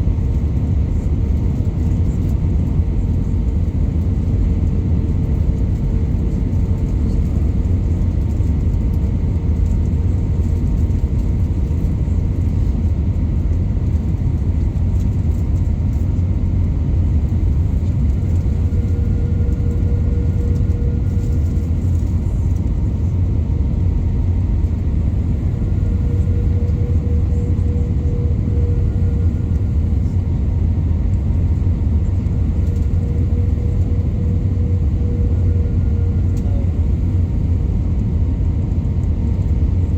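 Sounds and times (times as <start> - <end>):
airliner engines and airflow rumble: 0.0 - 39.9
faint steady whine: 0.0 - 39.9.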